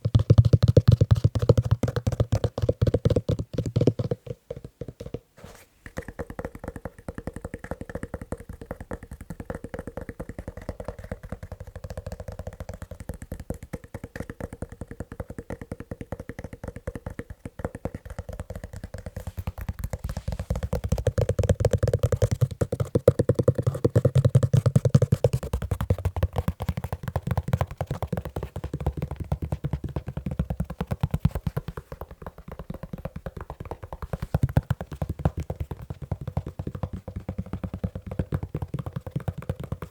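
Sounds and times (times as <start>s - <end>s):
fast tapping on leather shoe: 0.0s - 39.9s.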